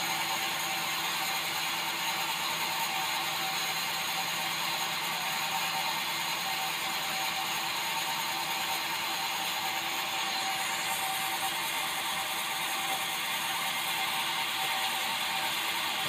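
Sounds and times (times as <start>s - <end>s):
band saw mechanical whir: 0.0s - 16.0s.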